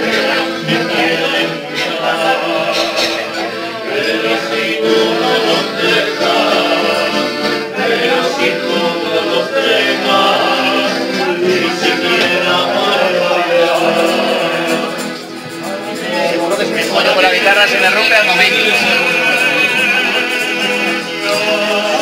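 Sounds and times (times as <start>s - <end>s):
accordion playing: 0.0s - 22.0s
guitar accompanying: 0.0s - 22.0s
men singing: 0.0s - 22.0s.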